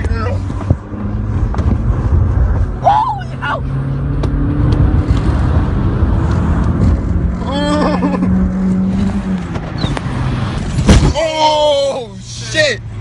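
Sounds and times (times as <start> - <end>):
car engine at high speed: 0.0 - 13.0
road noise: 0.0 - 13.0.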